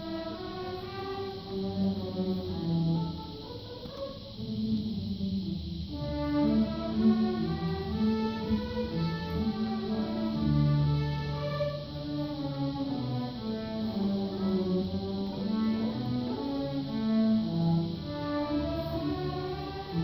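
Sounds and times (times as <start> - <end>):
school orchestra playing: 0.0 - 20.0.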